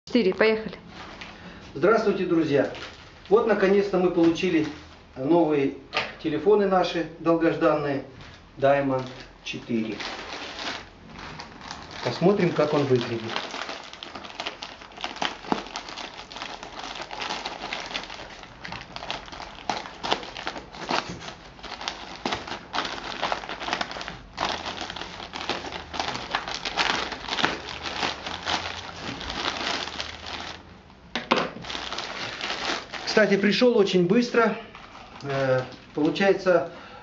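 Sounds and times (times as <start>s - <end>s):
packaging crinkling: 2.0s - 4.9s, 8.9s - 30.7s, 31.3s - 36.6s.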